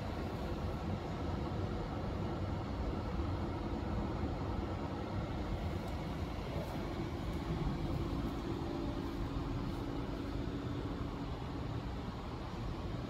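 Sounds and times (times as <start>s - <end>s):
vending machine cooling hum: 0.0s - 13.0s.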